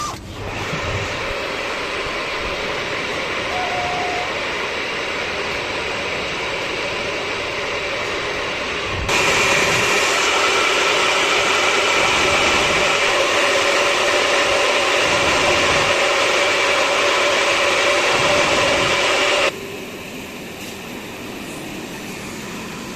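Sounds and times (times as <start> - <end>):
lathe machine drone with whine: 0.0 - 22.9.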